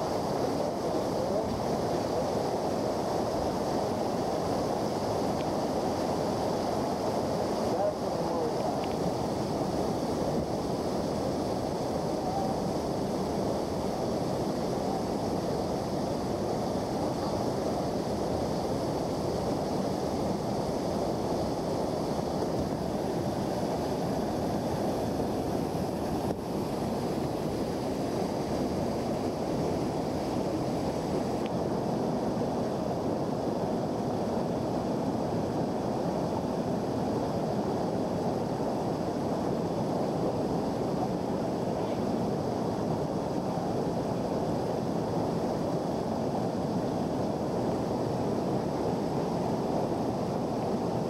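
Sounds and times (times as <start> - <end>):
water rushing over rapids: 0.0 - 51.0.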